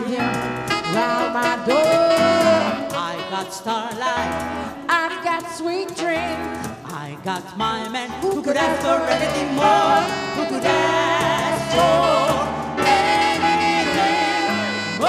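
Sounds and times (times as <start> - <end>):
saxophone: 0.0 - 7.0, 8.5 - 15.0
cajon: 0.0 - 15.0
grand piano: 0.0 - 15.0
women singing a duet: 0.0 - 15.0.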